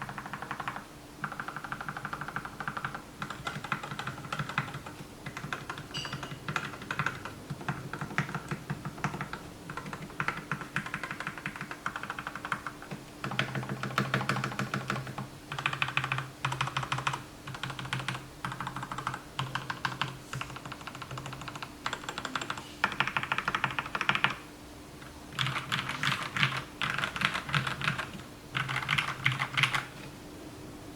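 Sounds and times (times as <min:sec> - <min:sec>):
typing on mechanical keyboard: 0:00.0 - 0:24.4, 0:25.3 - 0:30.1.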